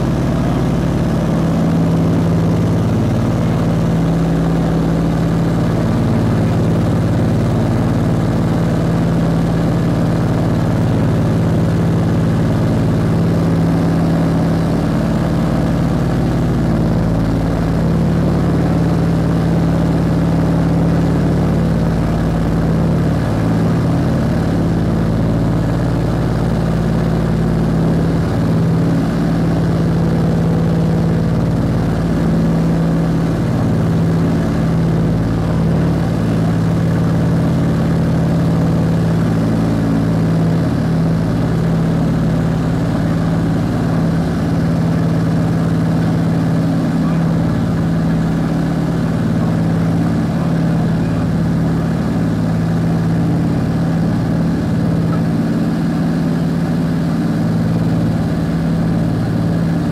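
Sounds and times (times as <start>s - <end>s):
propeller engines droning: 0.0s - 59.9s.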